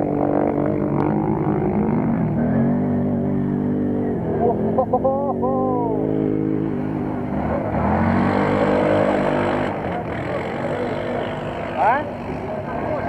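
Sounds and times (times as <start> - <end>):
quad-bike engines revving: 0.0 - 13.0.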